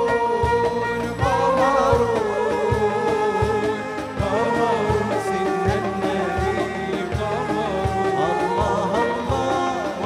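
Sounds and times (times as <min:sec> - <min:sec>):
flutes: 0:00.0 - 0:10.0
hand drums: 0:00.0 - 0:10.0
keyboard: 0:00.0 - 0:10.0
man singing religious song: 0:00.0 - 0:10.0
violin: 0:00.0 - 0:10.0.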